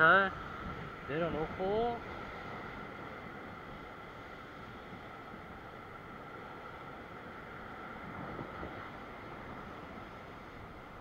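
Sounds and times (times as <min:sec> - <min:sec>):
ocean surf against rocks: 0:00.0 - 0:11.0
wind on microphone: 0:00.0 - 0:11.0.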